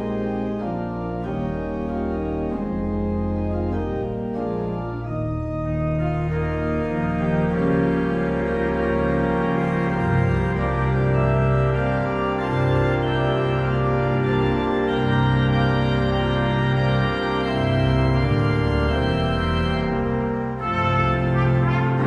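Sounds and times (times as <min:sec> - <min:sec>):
church organ playing chords: 0:00.0 - 0:22.0.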